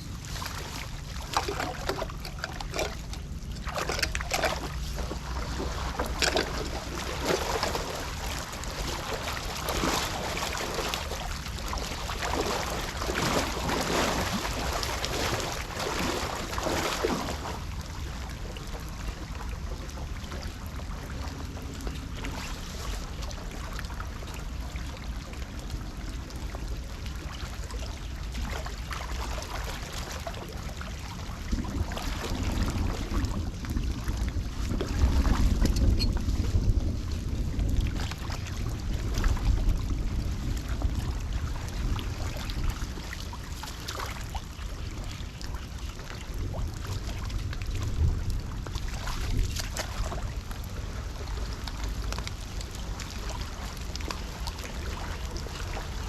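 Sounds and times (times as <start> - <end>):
floodwater sloshing and rushing: 0.0 - 56.0
wind rumbling on microphone: 0.0 - 56.0.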